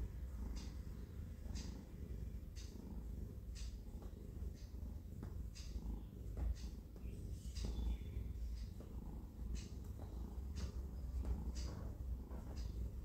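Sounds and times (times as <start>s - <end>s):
cat purring with soft rasp: 0.0s - 13.0s.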